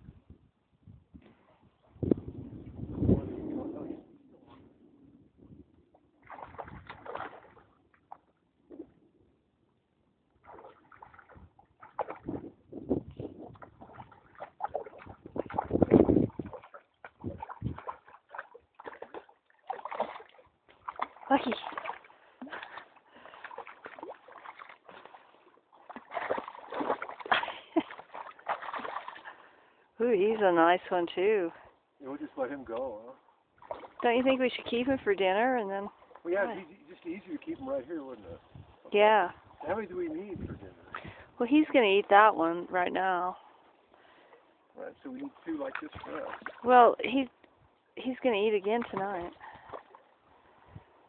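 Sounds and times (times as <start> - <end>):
water splashing and sloshing: 1.2 - 9.4, 10.2 - 51.0.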